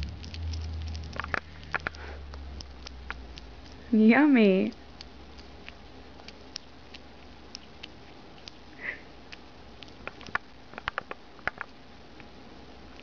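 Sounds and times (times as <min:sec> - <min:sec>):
hedgehog chewing: 0:00.0 - 0:13.0.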